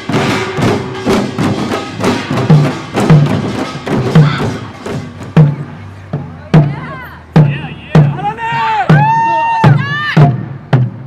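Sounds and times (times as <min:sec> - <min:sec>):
deep drum strokes: 0:00.0 - 0:11.0.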